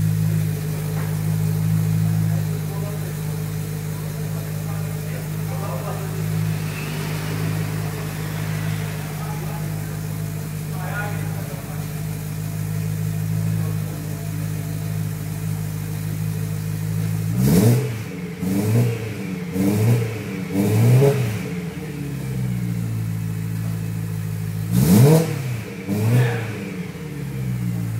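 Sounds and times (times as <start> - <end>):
car engine idling: 0.0 - 27.9
engine revving in throttle blips: 0.0 - 27.9.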